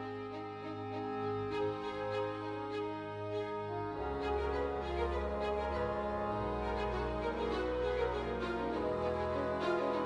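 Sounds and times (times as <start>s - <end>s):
slow sad string music: 0.0s - 10.0s.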